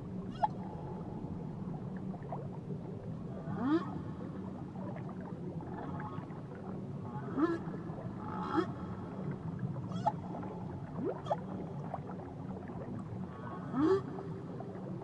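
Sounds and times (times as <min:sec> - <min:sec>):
low underwater hum: 0:00.0 - 0:15.0.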